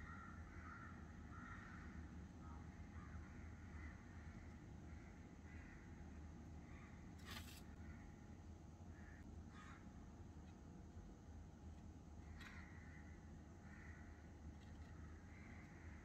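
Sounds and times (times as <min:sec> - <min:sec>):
faint bird calls: 0:00.0 - 0:09.9, 0:12.2 - 0:16.0
low steady hum: 0:00.0 - 0:16.0.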